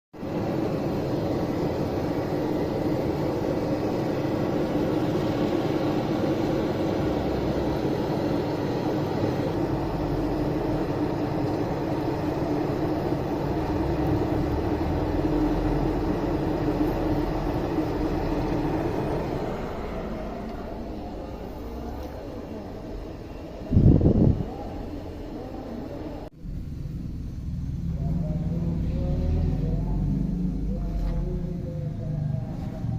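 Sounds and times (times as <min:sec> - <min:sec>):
low hum: 0:00.2 - 0:32.9
mechanical roar: 0:00.7 - 0:25.7, 0:26.3 - 0:32.9.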